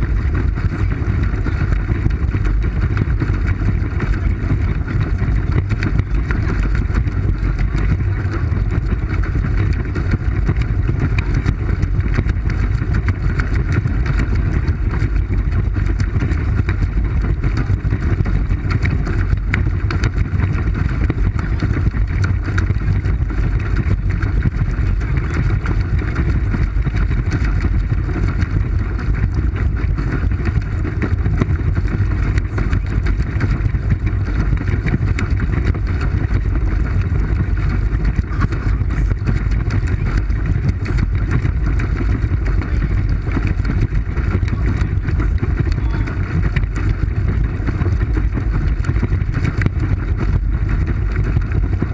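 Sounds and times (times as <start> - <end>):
water churning: 0.0 - 51.9
wind buffeting the camera: 0.0 - 51.9.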